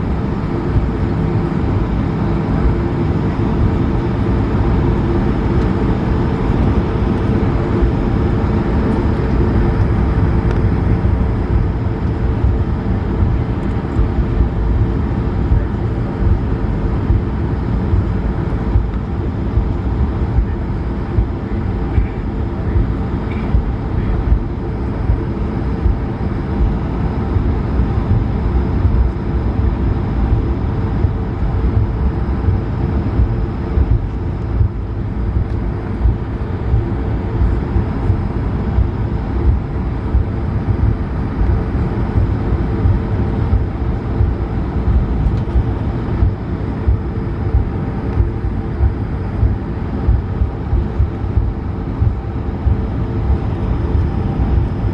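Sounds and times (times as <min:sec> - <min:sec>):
aircraft cabin engine rumble: 0:00.0 - 0:54.9
steady tones: 0:00.0 - 0:54.9.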